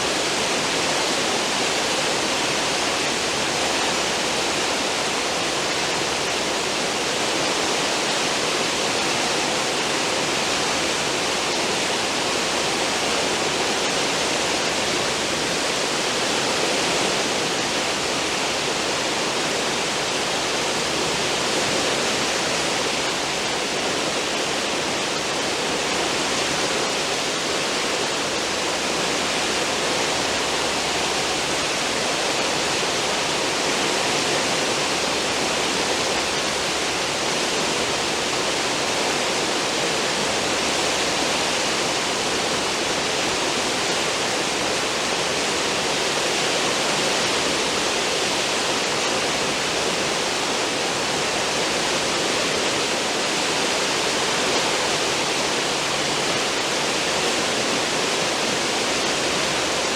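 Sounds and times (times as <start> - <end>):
churning water of ship wake: 0.0 - 59.9.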